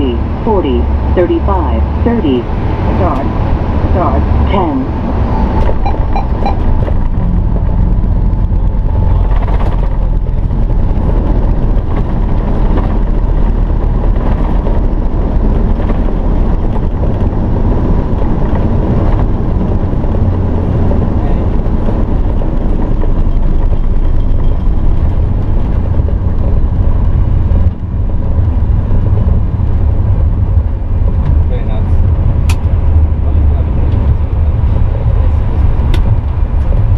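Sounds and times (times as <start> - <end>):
jet engines and wheels rumbling: 0.0 - 36.9.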